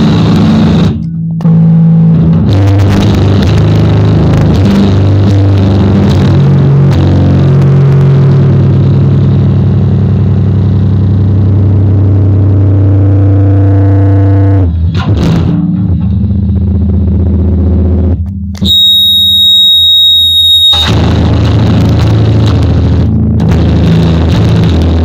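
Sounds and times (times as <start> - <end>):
distorted electric bass notes: 0.0 - 25.0
high-pitched whine: 0.0 - 25.0.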